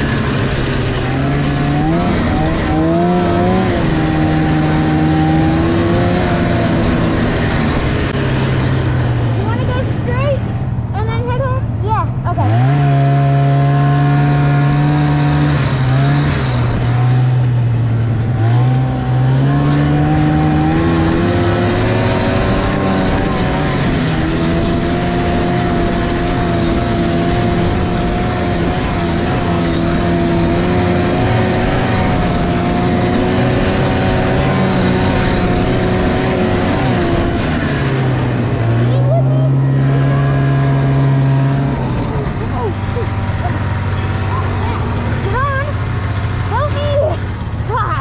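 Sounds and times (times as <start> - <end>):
snowmobile engine revving: 0.0 - 48.0
wind and track noise: 0.0 - 48.0.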